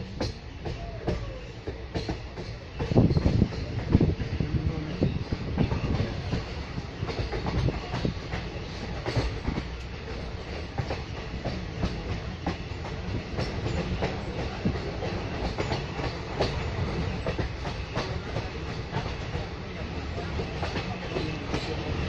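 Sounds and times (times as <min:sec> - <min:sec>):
train clicks and clatter: 0:00.0 - 0:22.0
train wheels rumbling on rails: 0:00.0 - 0:22.0.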